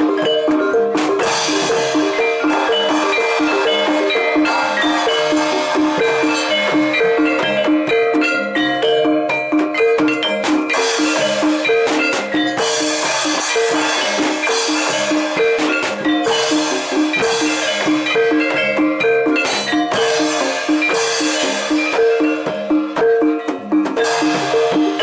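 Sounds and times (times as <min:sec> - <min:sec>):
drum strokes: 0:00.0 - 0:25.0
keyed metal instruments melody: 0:00.0 - 0:25.0.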